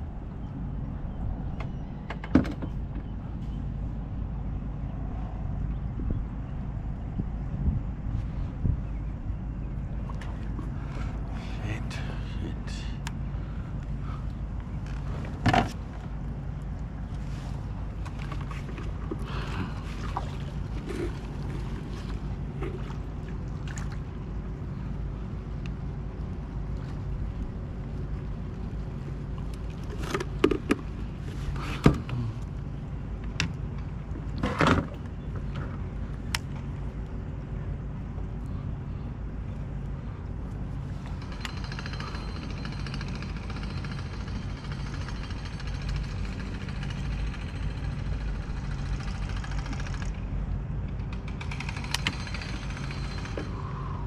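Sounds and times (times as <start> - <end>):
wind and water rumble: 0.0 - 54.0.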